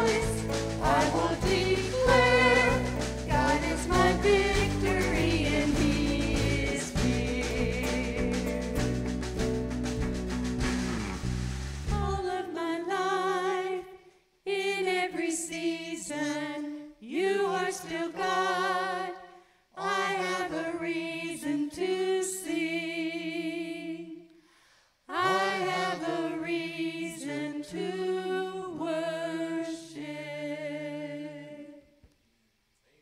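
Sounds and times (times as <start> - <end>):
group singing in harmony: 0.0 - 9.1, 11.9 - 24.3, 25.1 - 31.9.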